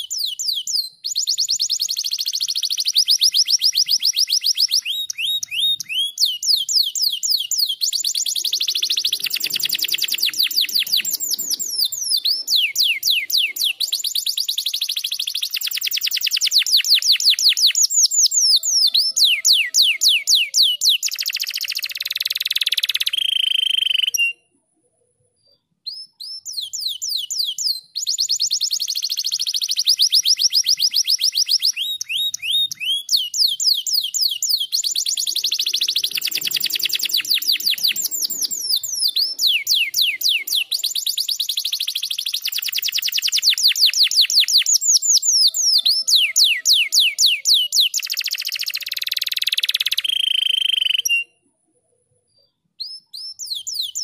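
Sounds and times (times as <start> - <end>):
canary singing trills: 0.0 - 24.6, 25.5 - 51.4.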